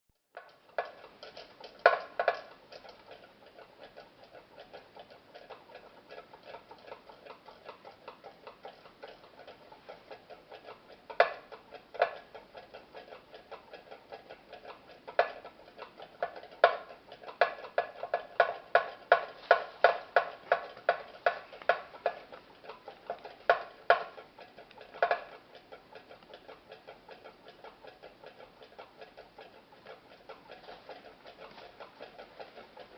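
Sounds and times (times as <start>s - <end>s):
light metallic ticking: 0.2s - 32.9s.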